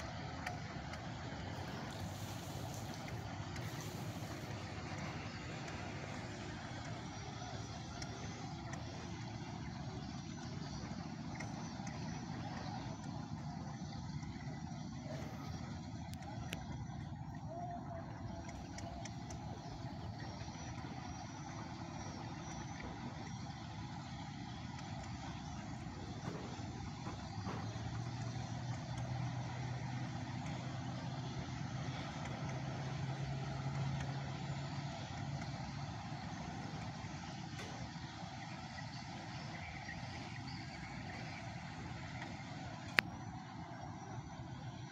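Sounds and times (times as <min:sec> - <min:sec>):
outboard motors droning: 0:00.0 - 0:44.9
small boat engine running: 0:00.0 - 0:44.9
water: 0:00.0 - 0:44.9.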